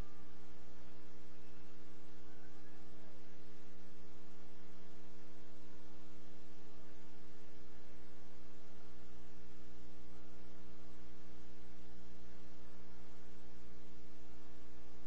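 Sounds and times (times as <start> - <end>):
constant hiss: 0.0 - 15.0
electrical mains hum: 0.0 - 15.0.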